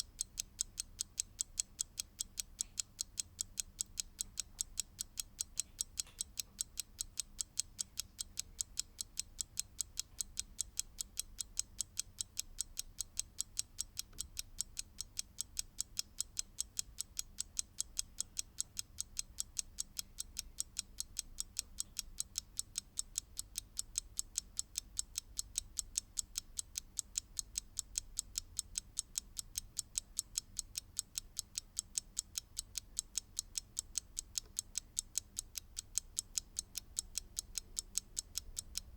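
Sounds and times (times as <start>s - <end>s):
mechanical clock ticking: 0.0s - 38.9s.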